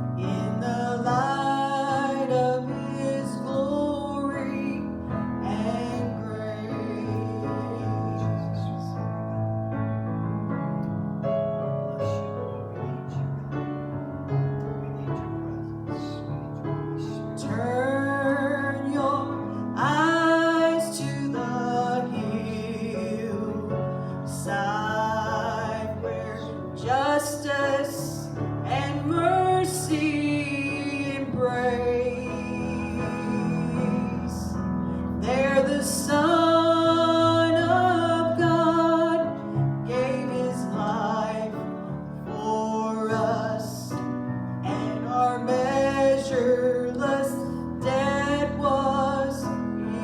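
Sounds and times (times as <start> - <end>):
solo voice singing: 0.0 - 9.1, 17.0 - 50.0
slow piano chords: 0.0 - 50.0.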